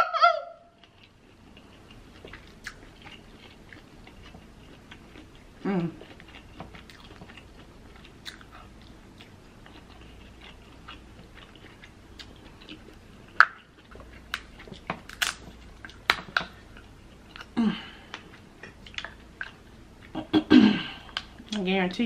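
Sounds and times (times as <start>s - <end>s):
chewing and wet mouth smacks: 0.8s - 20.2s.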